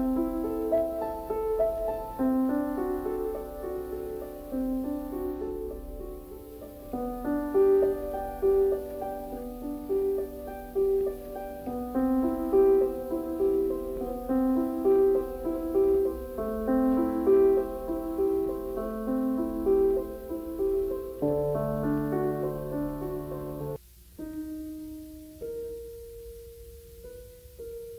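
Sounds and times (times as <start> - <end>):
gentle piano piece: 0.0 - 27.9.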